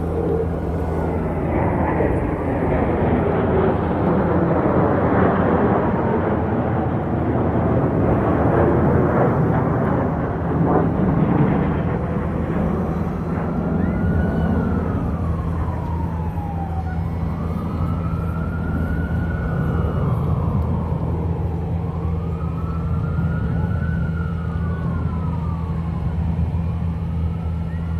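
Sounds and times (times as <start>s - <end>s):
emergency siren wailing: 0.0s - 27.9s
steady low rumble: 0.0s - 27.9s.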